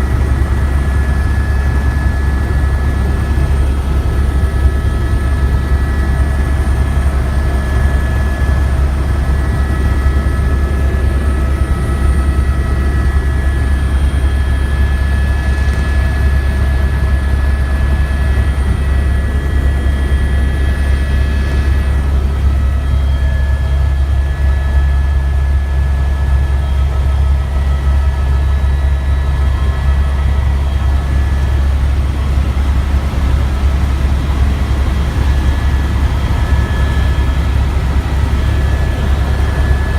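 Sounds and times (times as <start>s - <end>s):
helicopter rotor drone: 0.0s - 39.9s
thin steady whine: 0.0s - 39.9s.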